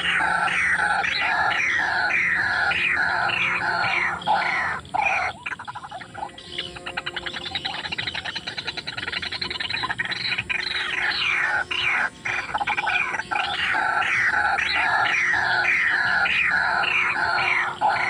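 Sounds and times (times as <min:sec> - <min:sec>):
bird chattering rattle: 0:00.0 - 0:18.0
bird repeated falling calls: 0:00.0 - 0:18.0.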